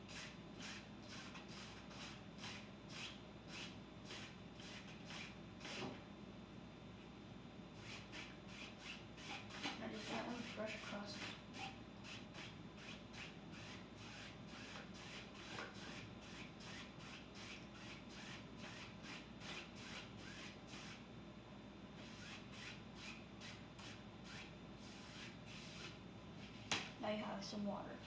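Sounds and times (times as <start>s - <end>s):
paint brush scratching on canvas: 0.0s - 5.9s, 7.8s - 21.0s, 22.0s - 26.6s.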